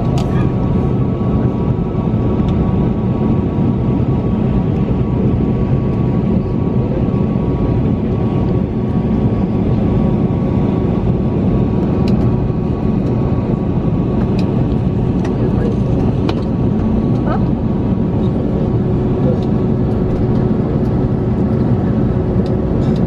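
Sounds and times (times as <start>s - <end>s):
airplane cabin rumble: 0.0s - 23.0s
faint engine whine: 0.0s - 23.0s.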